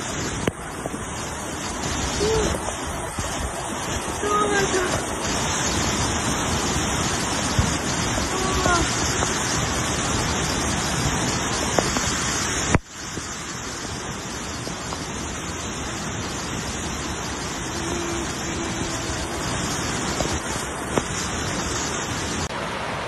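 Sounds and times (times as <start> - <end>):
muddy water rushing: 0.0 - 23.0.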